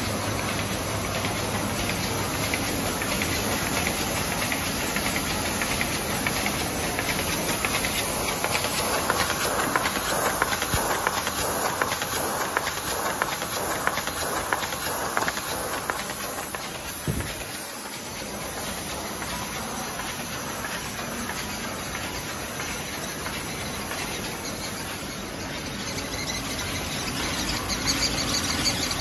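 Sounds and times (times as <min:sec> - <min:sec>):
machine belts and rollers hissing: 0:00.0 - 0:29.0
rapid fine clatter: 0:00.4 - 0:25.1.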